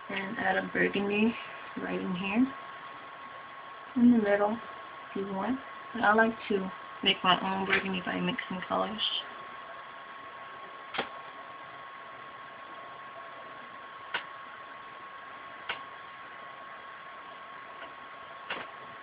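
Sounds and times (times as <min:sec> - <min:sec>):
faint constant whine: 0:00.0 - 0:19.0.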